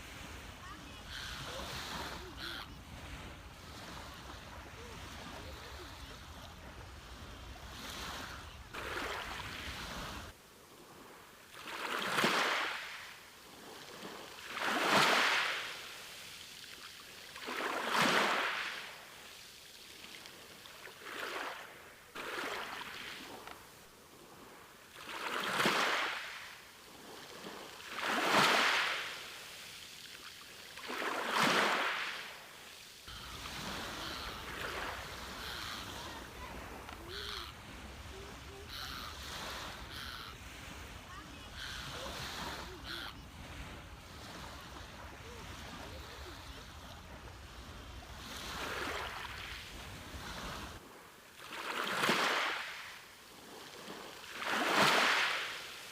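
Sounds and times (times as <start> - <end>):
sea waves washing onto beach: 0.0 - 55.9.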